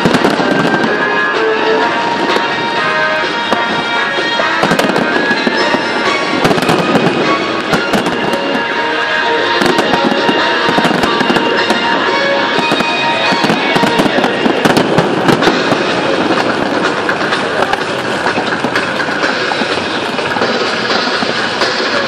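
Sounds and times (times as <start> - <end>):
fireworks crackling and popping: 0.0 - 22.0
music playing: 0.0 - 22.0.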